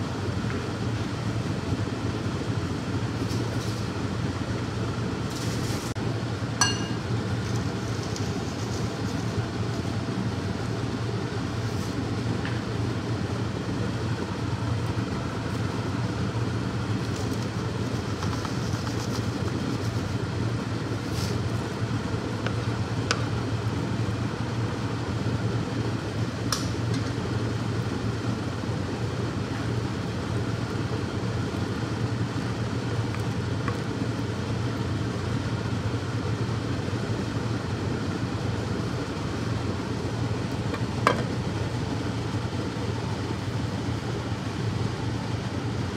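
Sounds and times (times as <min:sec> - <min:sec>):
low hum and hiss: 0:00.0 - 0:45.9
pot boiling: 0:00.0 - 0:45.9.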